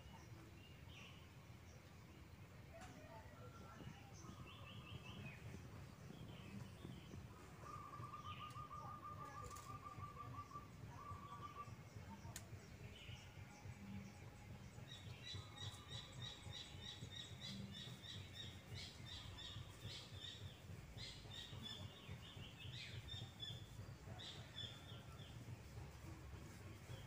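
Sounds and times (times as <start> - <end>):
small bird chirping: 0.0 - 25.4
low outdoor background noise: 0.0 - 27.0.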